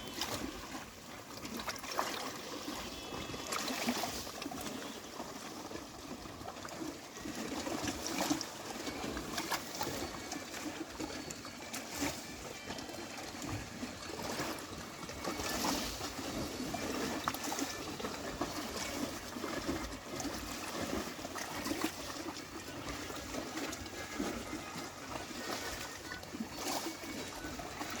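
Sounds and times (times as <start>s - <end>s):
small waves lapping on shore: 0.0s - 28.0s.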